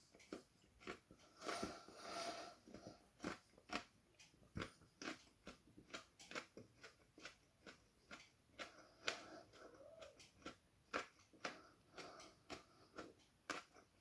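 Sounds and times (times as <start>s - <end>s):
person chewing chilli crunches: 0.0s - 14.0s.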